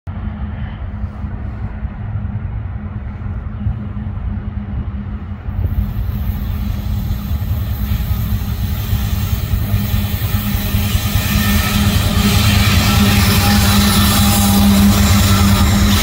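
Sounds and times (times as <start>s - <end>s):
rail and wheel noise: 0.0s - 16.0s
locomotive engine drone: 0.1s - 16.0s.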